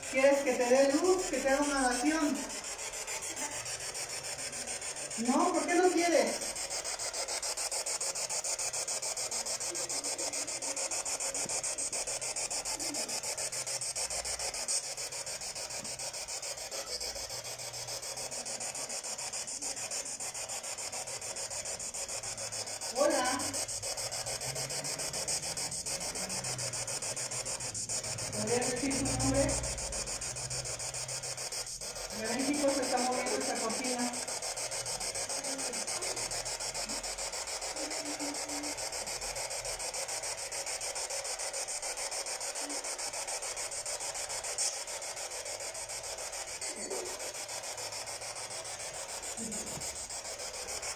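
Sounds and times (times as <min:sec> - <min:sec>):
radio static hiss: 0:00.0 - 0:50.9.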